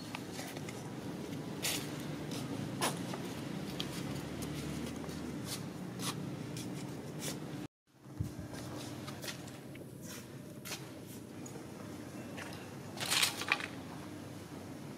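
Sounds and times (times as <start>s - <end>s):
steady background hum: 0.0s - 14.9s.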